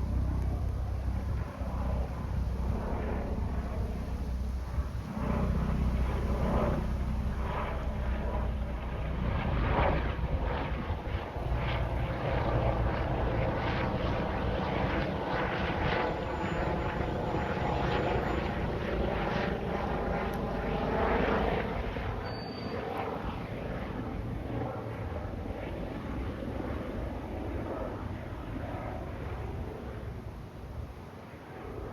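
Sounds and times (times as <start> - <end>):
helicopter flying overhead: 0.0 - 31.9.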